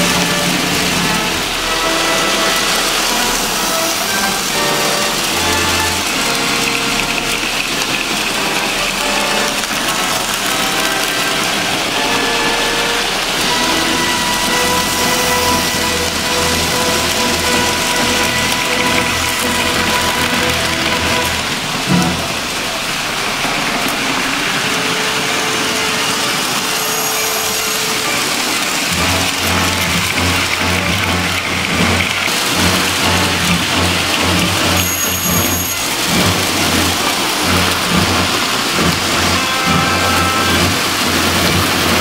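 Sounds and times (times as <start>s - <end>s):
music playing: 0.0s - 22.5s, 28.0s - 42.0s
toy train running on track: 0.0s - 42.0s.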